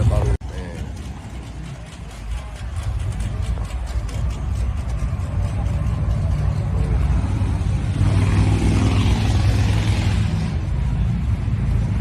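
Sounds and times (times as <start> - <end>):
car engine and exhaust rumbling: 0.0 - 12.0.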